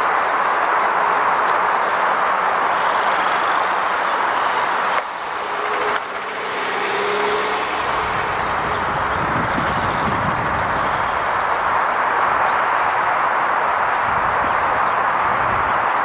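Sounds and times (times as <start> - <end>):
road traffic roar: 0.0 - 16.0.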